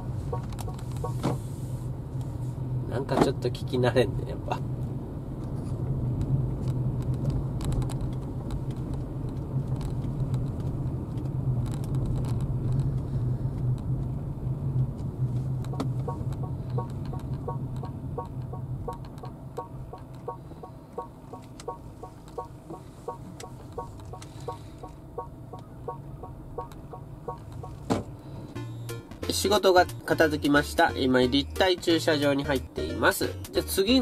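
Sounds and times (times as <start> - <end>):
turn signal ticking: 0.0 - 1.6, 5.4 - 34.0
car cabin low hum: 0.0 - 28.6.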